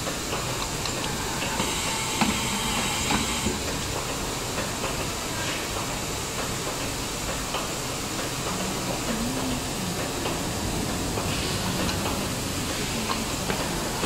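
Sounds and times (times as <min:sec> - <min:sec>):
printing machine hissing: 0:00.0 - 0:14.0.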